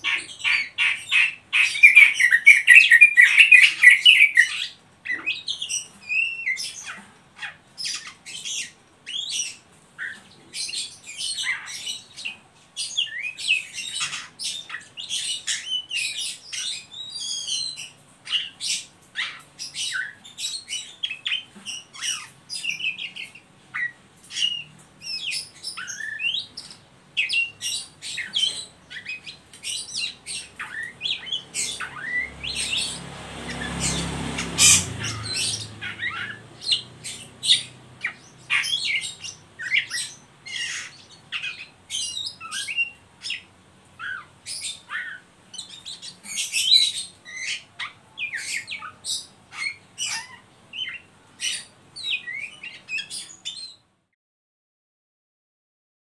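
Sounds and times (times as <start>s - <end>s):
songbird chattering song: 0.0s - 53.9s.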